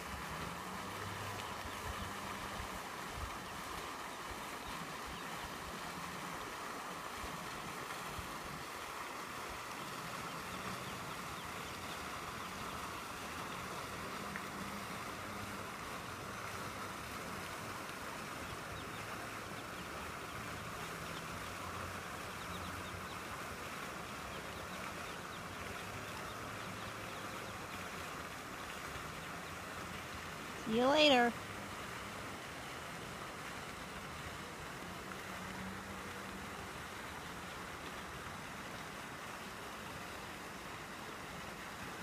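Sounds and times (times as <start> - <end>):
outdoor background noise: 0.0 - 42.0.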